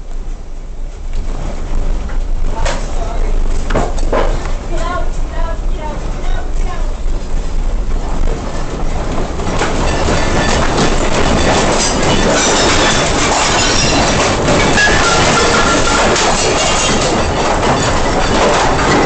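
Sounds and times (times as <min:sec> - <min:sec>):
building rattling in earthquake: 0:00.0 - 0:19.0.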